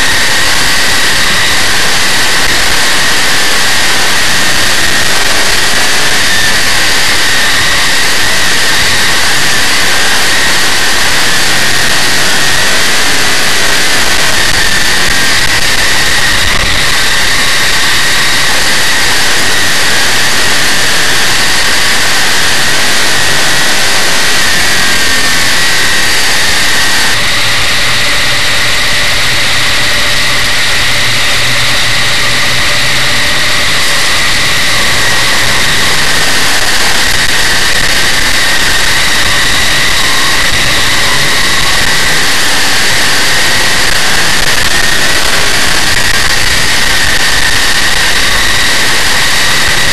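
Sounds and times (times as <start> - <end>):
race car engine running hard: 0.0 - 49.9.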